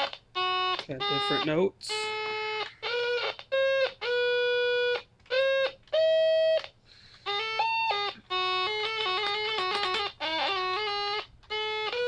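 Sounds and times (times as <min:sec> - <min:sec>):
electronic organ tones: 0:00.0 - 0:12.0.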